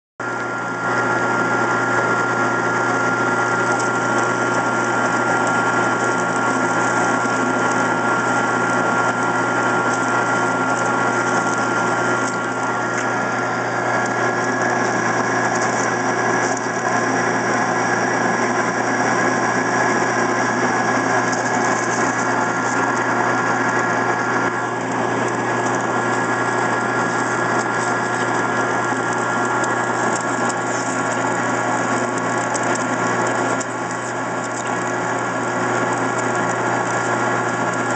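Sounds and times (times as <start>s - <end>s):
metal lathe cutting steel: 0.6s - 37.9s.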